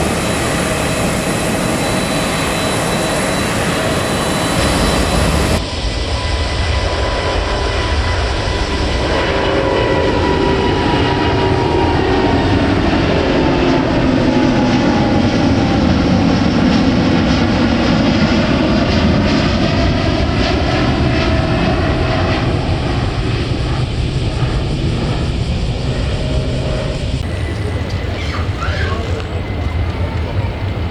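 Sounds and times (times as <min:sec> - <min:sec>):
jet airliner passing low: 0:00.0 - 0:30.9.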